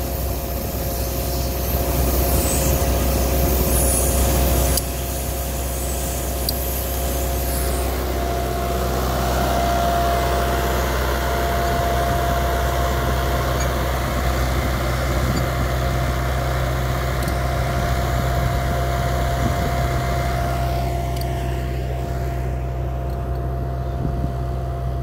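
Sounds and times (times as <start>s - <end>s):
tractor diesel engine running: 0.0s - 25.0s
vacuum fan whine: 0.0s - 25.0s.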